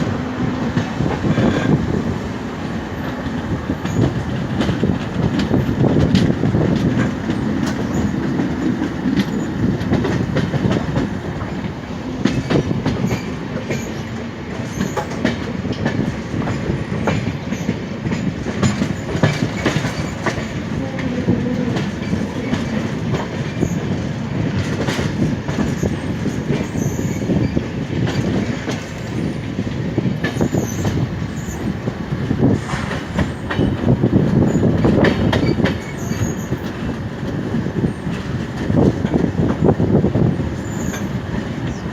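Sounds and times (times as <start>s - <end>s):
train wheels rumbling on rails: 0.0s - 41.9s
clatter over rail joints: 3.0s - 41.9s.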